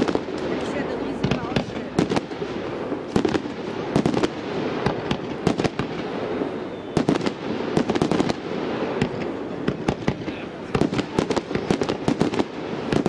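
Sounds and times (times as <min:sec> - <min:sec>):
continuous background noise: 0:00.0 - 0:13.0
fireworks bangs: 0:00.0 - 0:13.0.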